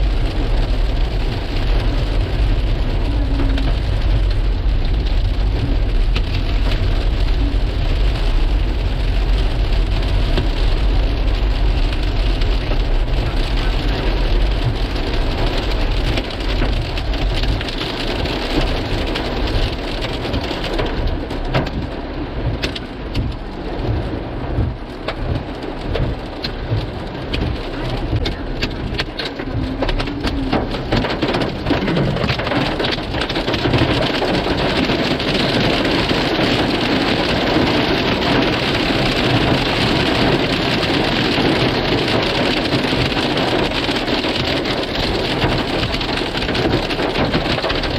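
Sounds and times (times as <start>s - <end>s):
hail and rain pelting hard surfaces: 0.0s - 47.9s.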